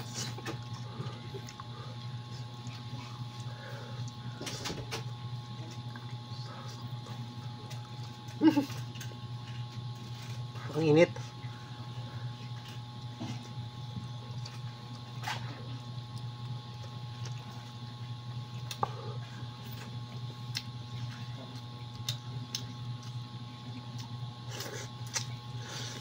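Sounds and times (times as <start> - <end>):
person chewing and lip smacking: 0.0 - 10.2, 12.4 - 26.0
steady low hum: 0.0 - 26.0.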